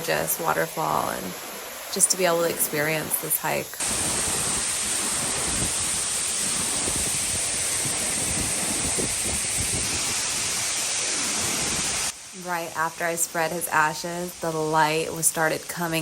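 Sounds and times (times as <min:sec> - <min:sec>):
waterfall rushing: 0:00.0 - 0:14.1.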